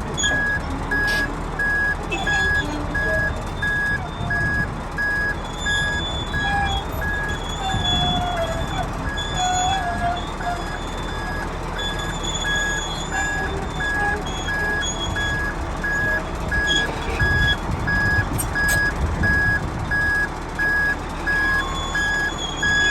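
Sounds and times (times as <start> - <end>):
diesel engine rumbling: 0.0 - 22.9.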